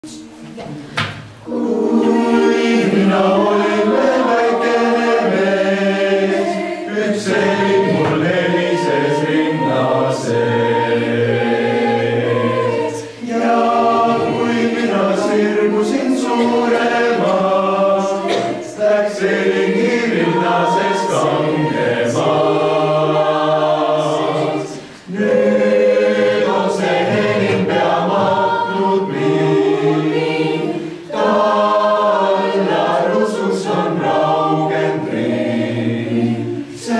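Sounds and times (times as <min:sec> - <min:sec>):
mixed choir singing a cappella: 0:00.0 - 0:36.9.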